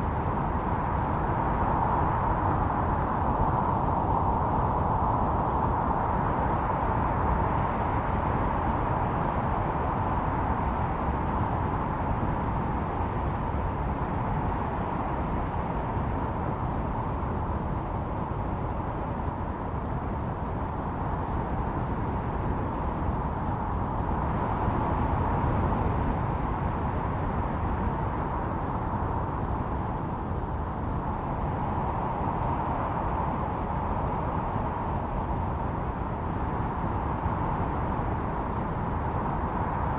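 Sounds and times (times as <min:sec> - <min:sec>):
howling blizzard wind: 0:00.0 - 0:39.9.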